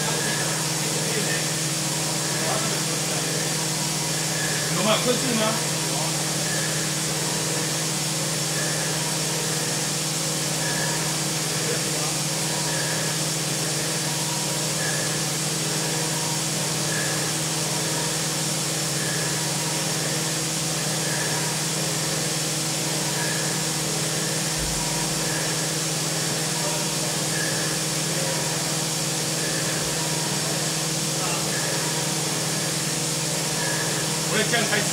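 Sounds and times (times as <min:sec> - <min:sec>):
milling machine spindle hum: 0:00.0 - 0:34.9.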